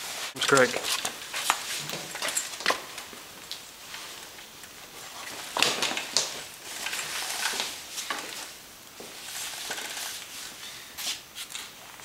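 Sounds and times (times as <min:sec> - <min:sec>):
fiberglass mat rustling: 0:00.0 - 0:12.0.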